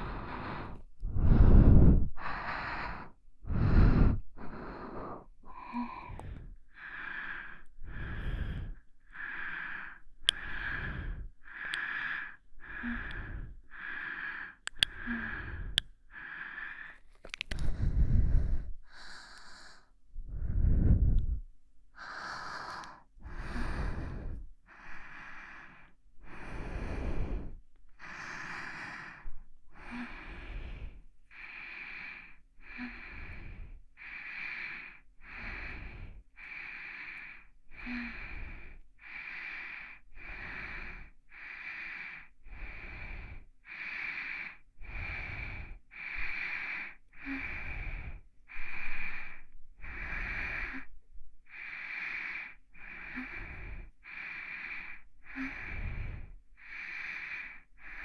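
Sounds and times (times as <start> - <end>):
person breathing softly: 0.0 - 58.0.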